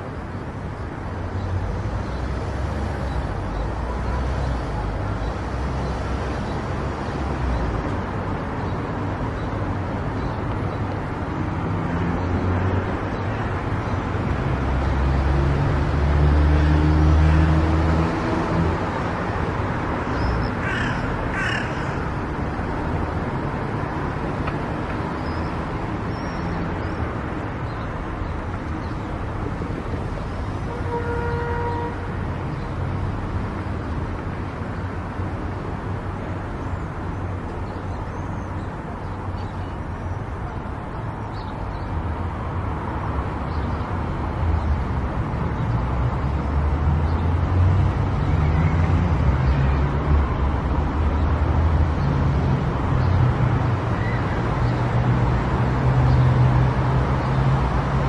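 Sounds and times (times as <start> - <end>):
tyre and road noise: 0.0 - 58.0.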